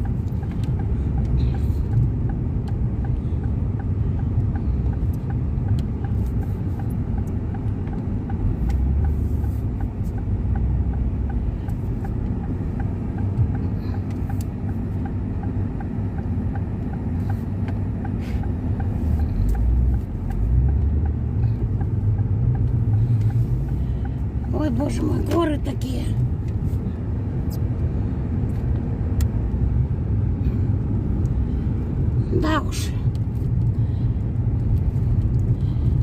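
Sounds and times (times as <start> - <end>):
faint even ticking: 0.0 - 32.2
car engine and tyres rumbling: 0.0 - 36.0.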